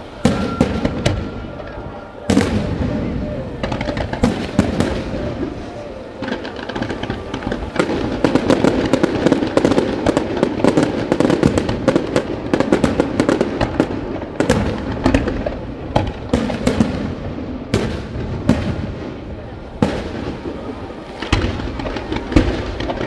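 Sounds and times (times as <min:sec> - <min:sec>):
fireworks bangs: 0:00.0 - 0:23.0
fireworks crackling and popping: 0:00.0 - 0:23.0.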